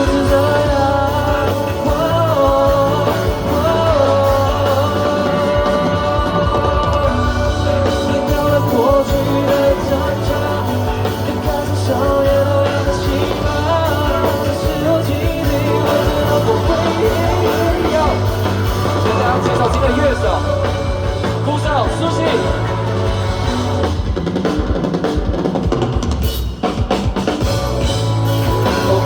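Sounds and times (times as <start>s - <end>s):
live rock band with singer: 0.0s - 29.0s.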